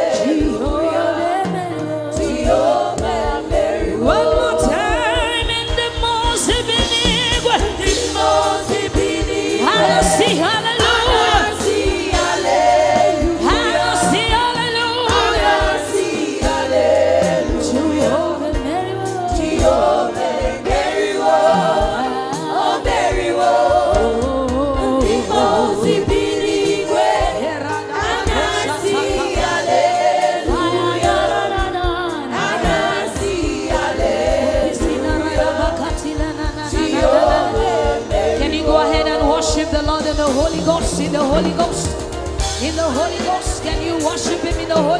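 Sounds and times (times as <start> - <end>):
voices singing together: 0.0 - 42.1
instrumental accompaniment with beat: 0.0 - 44.9.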